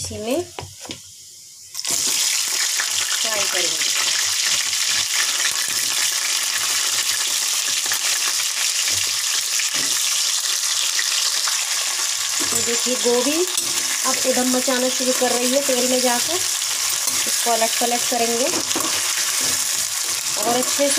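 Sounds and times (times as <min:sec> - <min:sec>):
vegetables sizzling in hot oil: 0:00.2 - 0:20.9.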